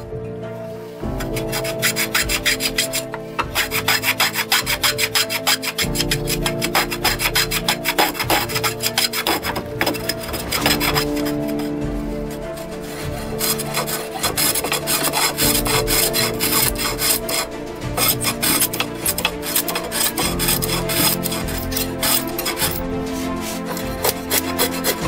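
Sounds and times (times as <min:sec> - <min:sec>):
background music sustained tones: 0:00.0 - 0:25.0
block plane scraping wood: 0:01.0 - 0:25.0.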